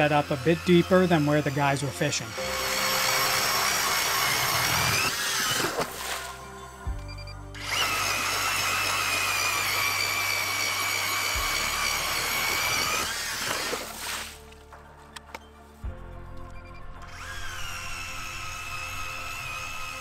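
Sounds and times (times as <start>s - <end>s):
ice auger motor whining: 0.0s - 14.6s, 16.5s - 20.0s
background music: 0.0s - 20.0s.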